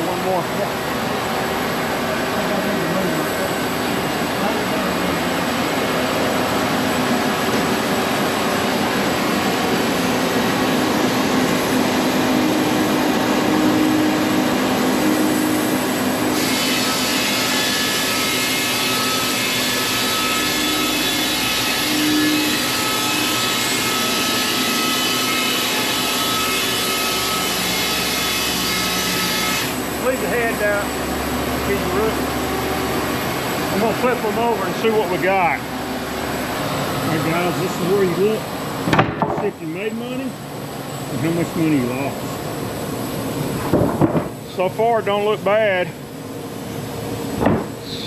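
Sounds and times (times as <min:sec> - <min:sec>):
sawmill cutting wood: 0:00.0 - 0:40.4.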